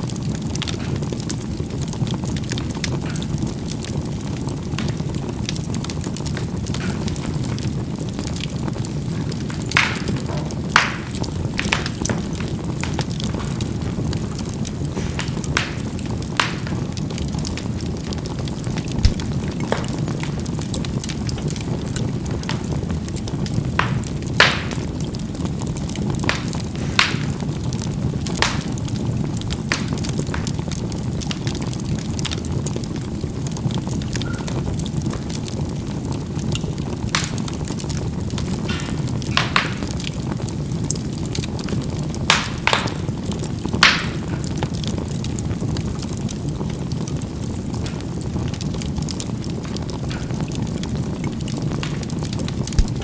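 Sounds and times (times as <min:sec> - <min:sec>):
charcoal burning rush: 0:00.0 - 0:53.0
charcoal crackling and popping: 0:00.0 - 0:53.0
fire rumbling: 0:00.0 - 0:53.0.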